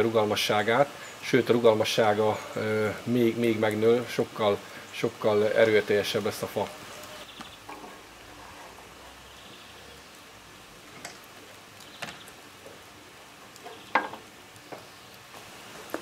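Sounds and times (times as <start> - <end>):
fire crackles: 0.0 - 16.0
hot liquid sizzling: 0.0 - 16.0.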